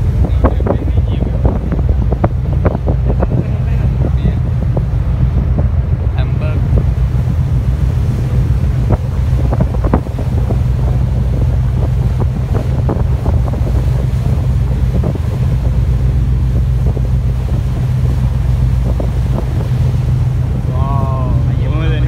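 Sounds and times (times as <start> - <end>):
boat engines droning: 0.0 - 22.0
water rushing: 0.0 - 22.0
wind buffeting microphone: 0.0 - 22.0.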